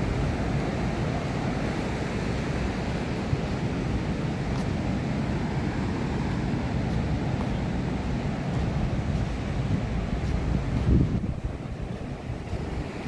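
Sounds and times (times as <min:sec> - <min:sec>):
ocean surf: 0:00.0 - 0:13.0
wind rumbling on microphone: 0:00.0 - 0:13.0.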